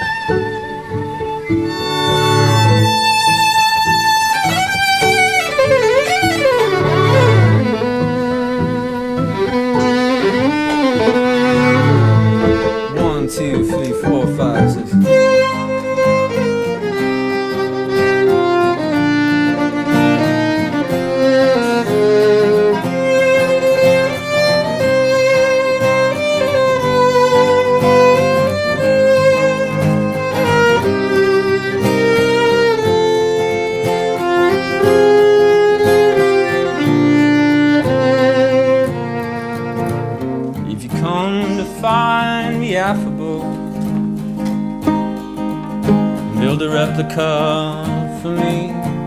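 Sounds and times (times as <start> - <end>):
violin slow melody: 0.0 - 42.9
guitar accompaniment: 0.0 - 49.0.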